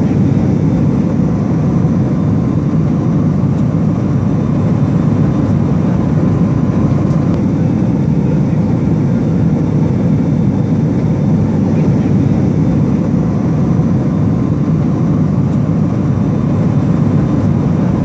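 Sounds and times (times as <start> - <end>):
aircraft engines droning: 0.0 - 18.0.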